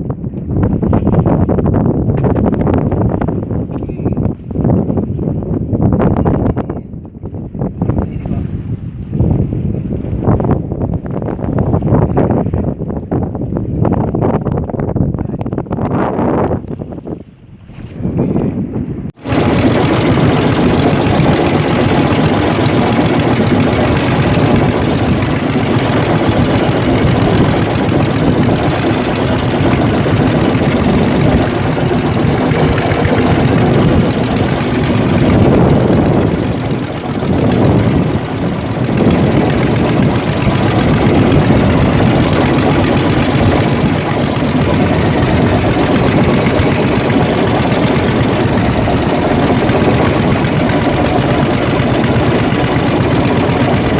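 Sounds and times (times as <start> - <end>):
boat engine running: 0.0 - 18.4, 19.1 - 53.9.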